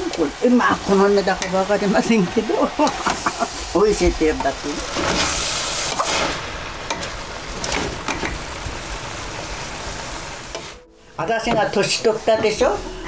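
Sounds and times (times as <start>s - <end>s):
vegetables sizzling in metal pot: 0.0s - 13.0s.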